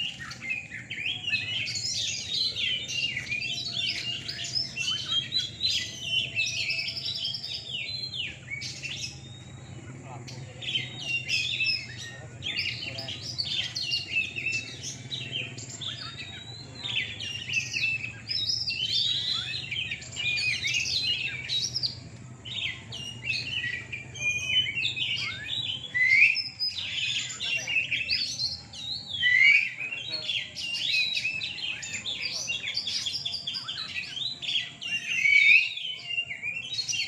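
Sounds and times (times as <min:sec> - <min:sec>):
birds singing whistled trills: 0:00.0 - 0:37.0.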